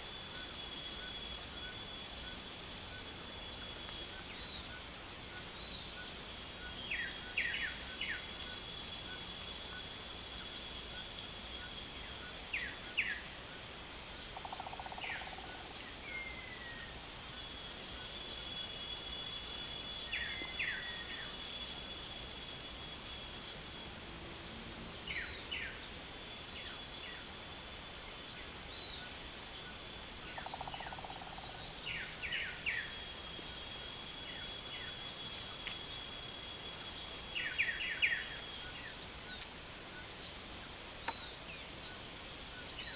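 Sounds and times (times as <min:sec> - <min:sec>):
small birds chirping: 0:00.0 - 0:23.7, 0:25.1 - 0:42.9
insects droning: 0:00.0 - 0:42.9.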